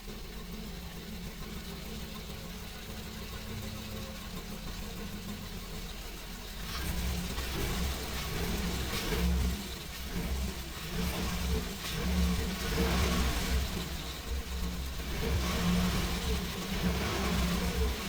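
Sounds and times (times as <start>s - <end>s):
engine misfiring and revving: 0.0s - 18.0s.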